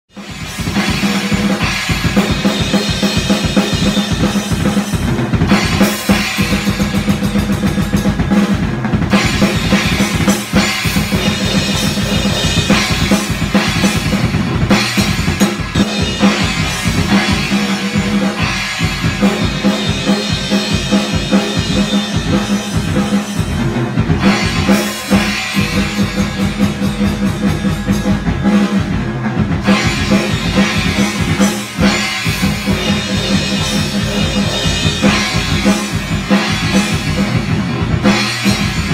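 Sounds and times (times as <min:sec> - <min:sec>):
fast bass drum strokes: 0:00.0 - 0:38.9
cymbals washing: 0:00.1 - 0:29.0, 0:29.6 - 0:38.9.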